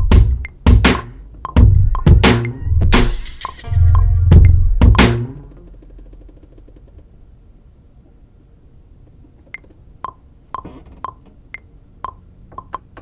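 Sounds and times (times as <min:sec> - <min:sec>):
faint low hum: 0:00.0 - 0:10.5.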